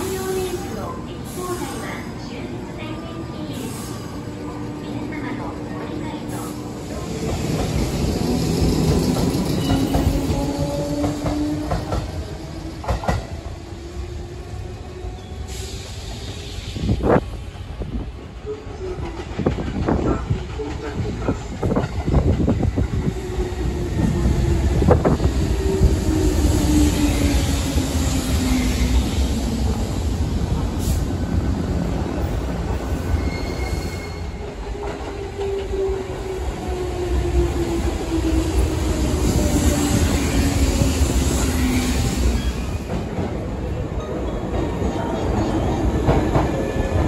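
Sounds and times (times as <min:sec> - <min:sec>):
train wheel rumble: 0:00.0 - 0:47.0.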